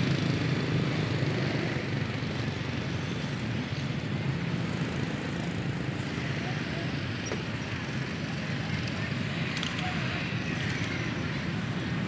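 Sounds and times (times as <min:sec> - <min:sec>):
engine-like hum: 0:00.0 - 0:12.0
outdoor noise: 0:00.0 - 0:12.0.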